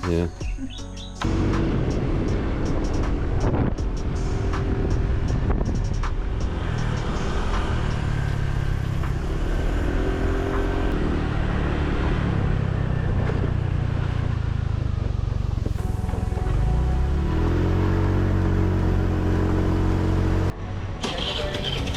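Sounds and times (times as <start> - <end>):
road noise: 0.0 - 21.9
vehicle engine running: 1.2 - 21.9.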